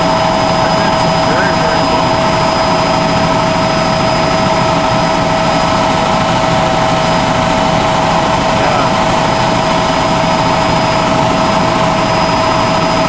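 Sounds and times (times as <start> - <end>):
aircraft engine drone: 0.0 - 13.0
whining tones: 0.0 - 13.0.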